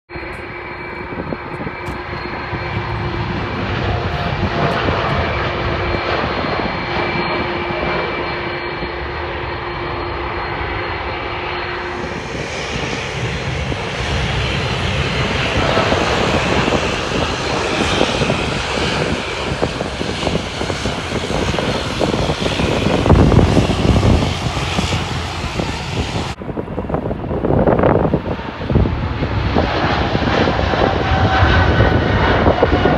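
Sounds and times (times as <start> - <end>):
jet engine roar with whine: 0.1 - 32.9.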